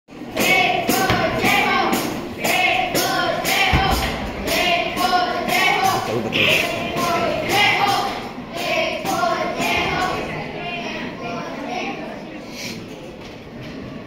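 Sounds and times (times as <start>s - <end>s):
group of voices singing: 0.3s - 11.6s.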